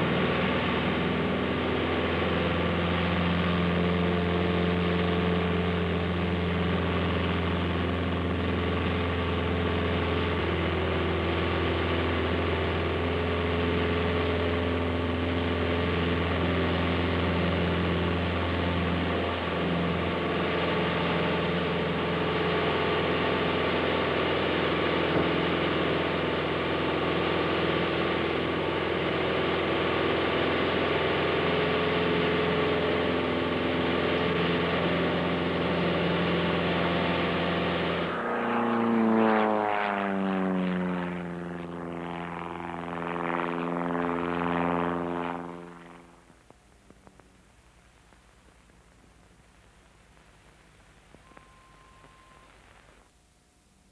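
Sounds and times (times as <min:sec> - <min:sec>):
propeller aircraft engine droning: 0:00.0 - 0:53.1.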